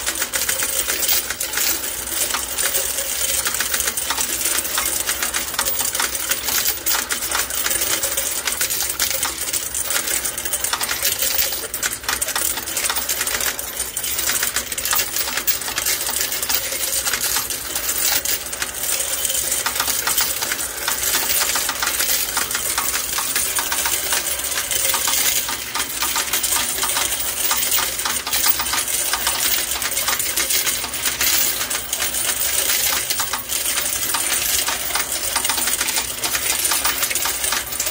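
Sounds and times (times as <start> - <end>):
coins clattering in machine: 0.0 - 37.9.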